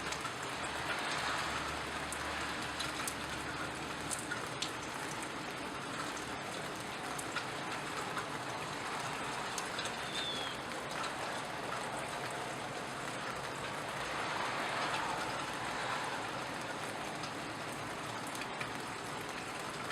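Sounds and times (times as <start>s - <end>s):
drips ticking: 0.0s - 19.9s
steady rain hiss: 0.0s - 19.9s.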